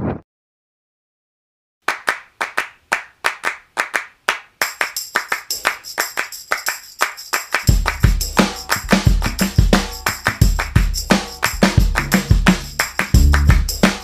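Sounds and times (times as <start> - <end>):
rhythmic hand claps: 1.9 - 14.0.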